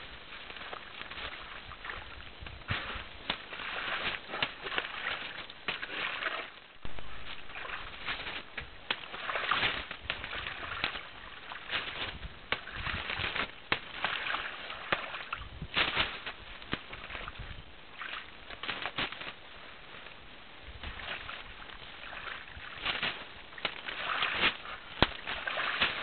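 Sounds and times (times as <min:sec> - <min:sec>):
wet mud squelching and splashing: 0:00.0 - 0:19.4, 0:20.8 - 0:26.0.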